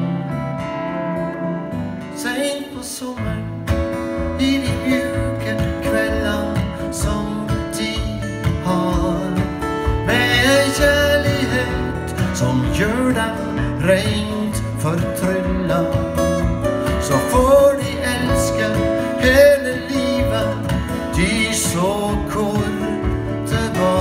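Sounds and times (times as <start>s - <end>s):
acoustic guitars playing: 0.0s - 24.0s
man singing: 2.0s - 24.0s.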